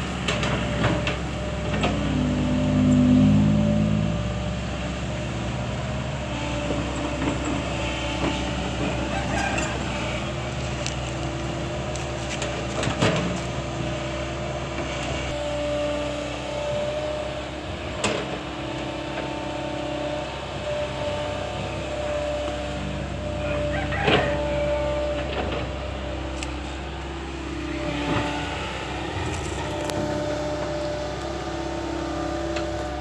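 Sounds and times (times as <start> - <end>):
excavator engine and hydraulics: 0.0 - 33.0.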